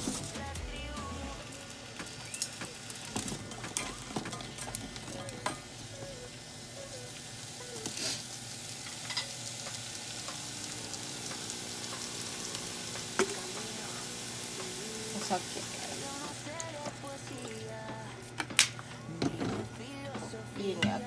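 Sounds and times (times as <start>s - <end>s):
potatoes sizzling in a frying pan: 1.4s - 18.7s.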